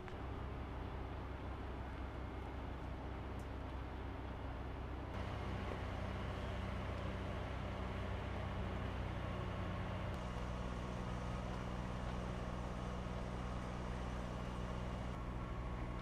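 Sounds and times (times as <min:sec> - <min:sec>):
fire engine idling: 0:00.0 - 0:16.0.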